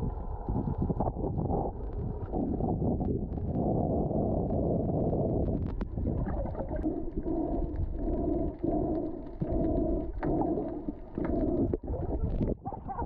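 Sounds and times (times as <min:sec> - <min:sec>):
muffled underwater sound: 0:00.0 - 0:13.0.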